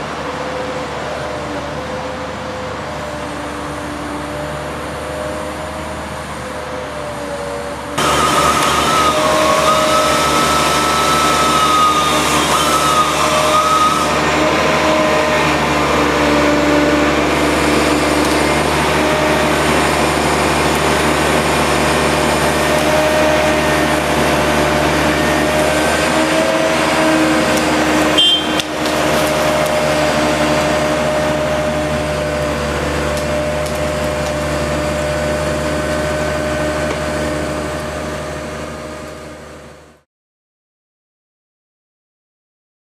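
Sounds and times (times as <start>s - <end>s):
truck engine droning: 0.0s - 40.0s.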